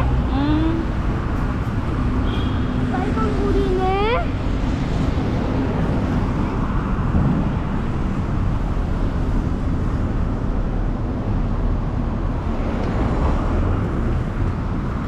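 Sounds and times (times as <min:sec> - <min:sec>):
cars passing on city road: 0:00.0 - 0:15.0.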